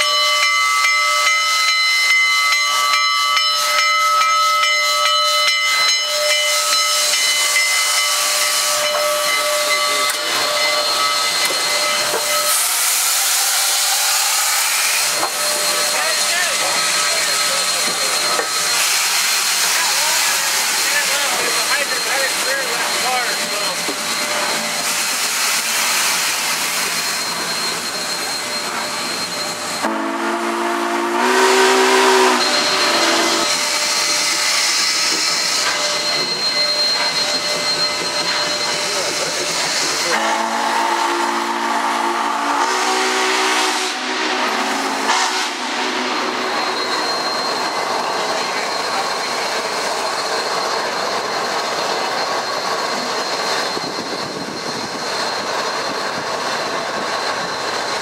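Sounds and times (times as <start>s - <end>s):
multi-note chime whistle: 0.0s - 58.0s
steam locomotive hissing: 0.0s - 58.0s.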